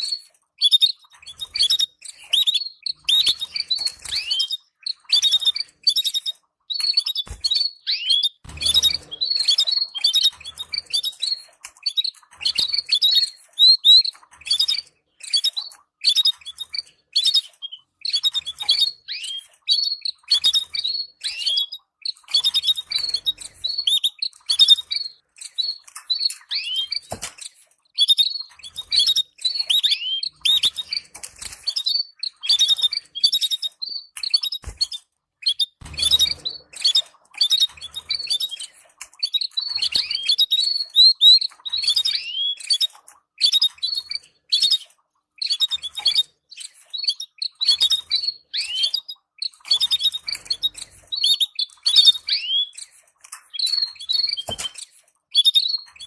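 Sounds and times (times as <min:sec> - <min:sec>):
canaries chattering: 0:00.0 - 0:56.0.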